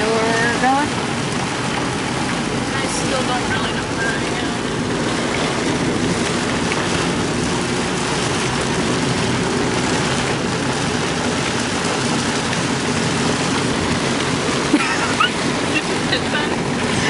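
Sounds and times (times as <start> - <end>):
low hum of car: 0.0 - 17.0
rain on car: 0.0 - 17.0
tyres on wet road: 0.0 - 17.0.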